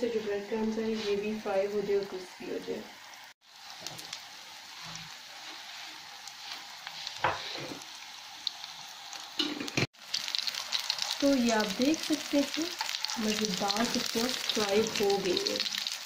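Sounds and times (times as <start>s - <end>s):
kebabs sizzling in oil: 0.0s - 16.0s.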